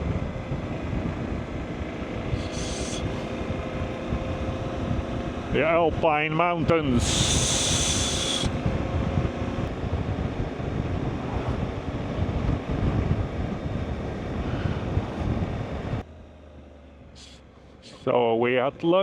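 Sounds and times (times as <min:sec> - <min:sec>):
wind rushing over microphone: 0:00.0 - 0:16.0
engine and road rumble: 0:00.0 - 0:19.0.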